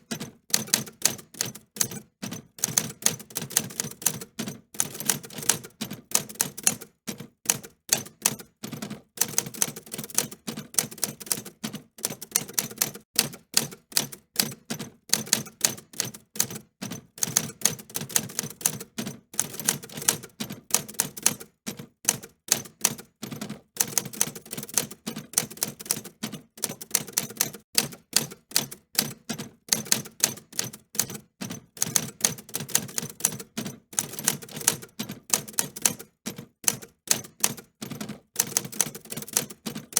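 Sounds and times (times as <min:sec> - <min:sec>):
typewriter keys clicking: 0:00.0 - 0:16.6, 0:17.2 - 0:23.1, 0:23.8 - 0:39.9.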